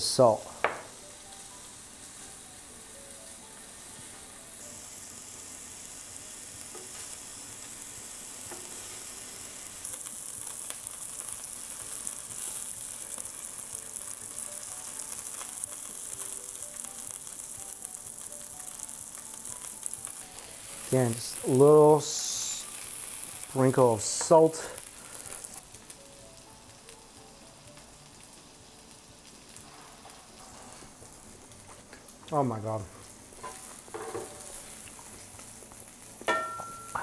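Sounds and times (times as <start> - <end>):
beef sizzling in a pan: 0.0 - 37.0.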